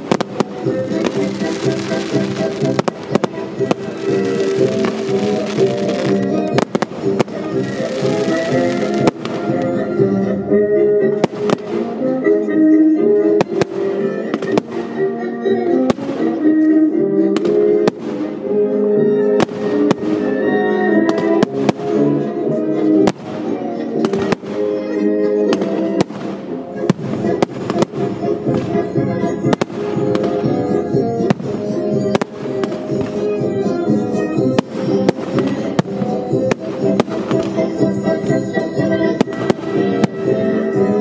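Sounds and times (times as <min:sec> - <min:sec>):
fireworks bangs and crackles: 0:00.0 - 0:10.3, 0:11.1 - 0:12.1, 0:13.3 - 0:16.6, 0:17.3 - 0:41.0
loud music: 0:00.0 - 0:41.0.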